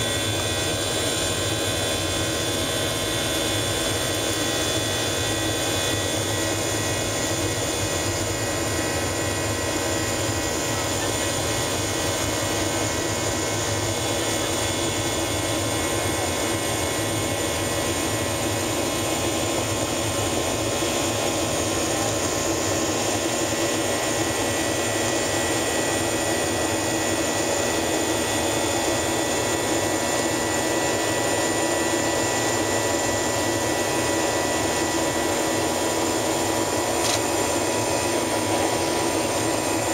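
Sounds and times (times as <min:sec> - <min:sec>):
jet engines and airflow hiss: 0:00.0 - 0:39.9.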